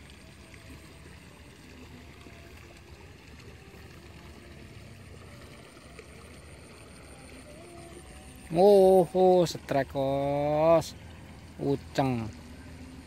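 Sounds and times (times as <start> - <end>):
water flowing in ditch: 0.0 - 13.0.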